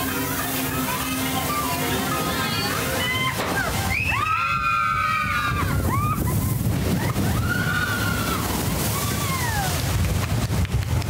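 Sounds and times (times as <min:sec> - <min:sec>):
boat rumbling through water: 0:00.0 - 0:11.0.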